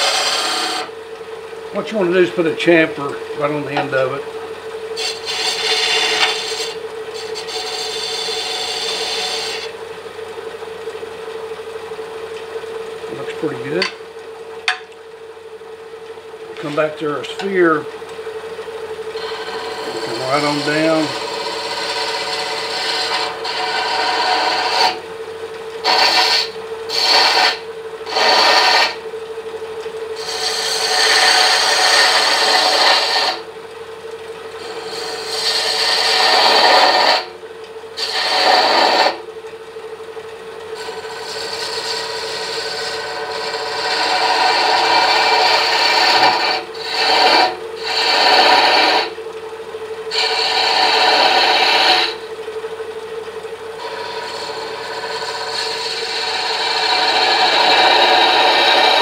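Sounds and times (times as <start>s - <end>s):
turning tool cutting wood: 0.0s - 59.0s
wood lathe humming: 0.0s - 59.0s.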